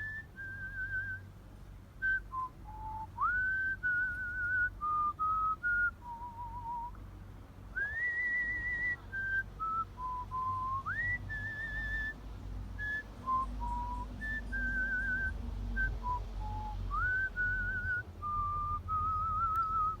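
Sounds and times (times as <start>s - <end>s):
person whistling a melody: 2.0s - 7.0s, 7.8s - 12.2s, 12.8s - 20.0s.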